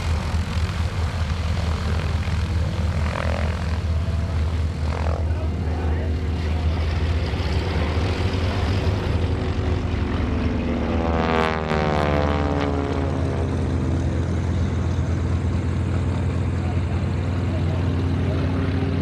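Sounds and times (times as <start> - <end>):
propeller aircraft engine droning: 0.0 - 19.0.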